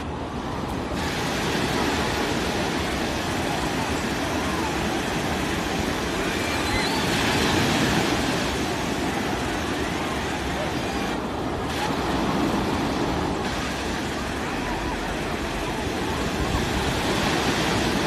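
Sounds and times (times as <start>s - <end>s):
crowd of bathers chattering: 0.0s - 18.0s
small surf waves breaking: 0.0s - 18.0s.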